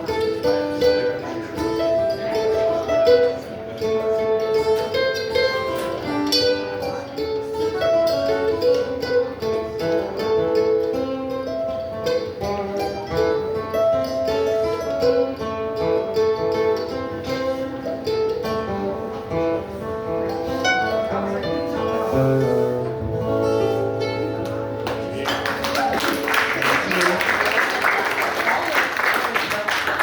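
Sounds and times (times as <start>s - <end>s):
acoustic string-band music: 0.0s - 30.0s.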